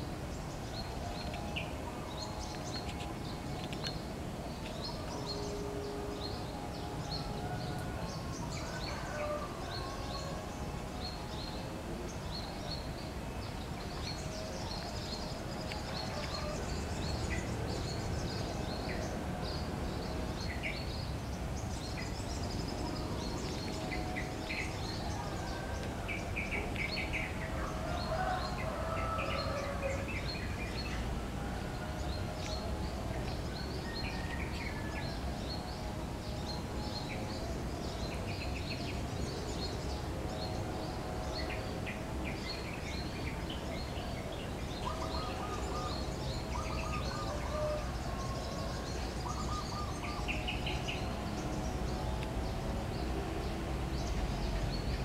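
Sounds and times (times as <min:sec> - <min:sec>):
birds chirping and calling: 0:00.0 - 0:55.0.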